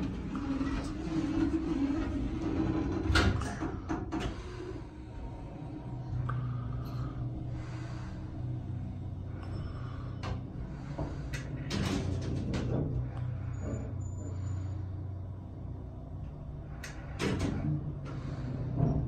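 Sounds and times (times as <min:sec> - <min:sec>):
hydraulic elevator hum: 0:00.0 - 0:19.0.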